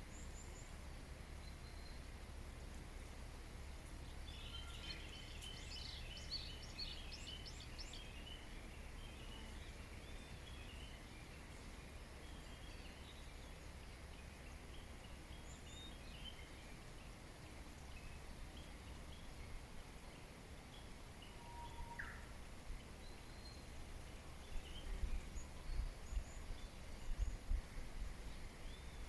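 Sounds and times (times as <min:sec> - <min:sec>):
small birds chirping and singing: 0:03.9 - 0:29.0.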